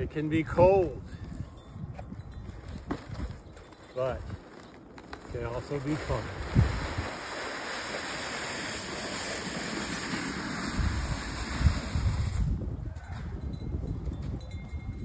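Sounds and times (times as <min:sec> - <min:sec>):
wind buffeting microphone: 0:00.0 - 0:04.5, 0:05.3 - 0:07.5, 0:09.4 - 0:15.0.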